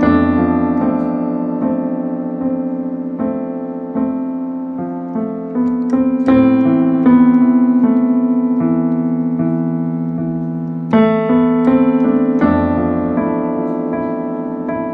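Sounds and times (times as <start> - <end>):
slow piano melody with chords: 0.0 - 14.9.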